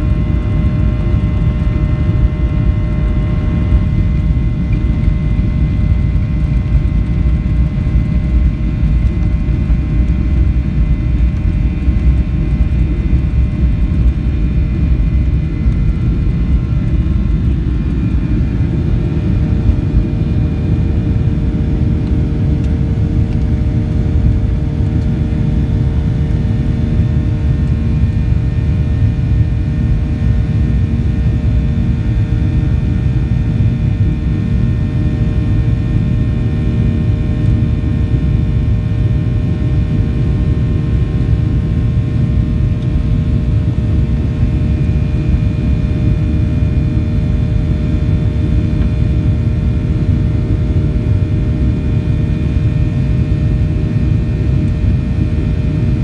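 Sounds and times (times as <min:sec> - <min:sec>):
jet engines deep rumble: 0:00.0 - 0:56.0.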